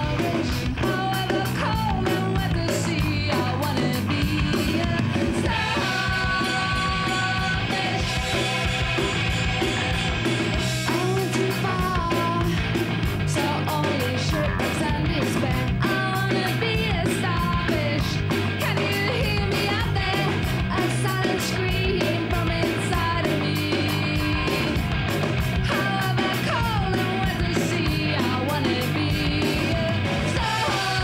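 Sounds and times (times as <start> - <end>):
person singing: 0.0 - 9.9, 10.9 - 12.7, 13.3 - 24.8, 25.7 - 31.0
rock music: 0.0 - 31.0
steady drum beat: 0.0 - 31.0.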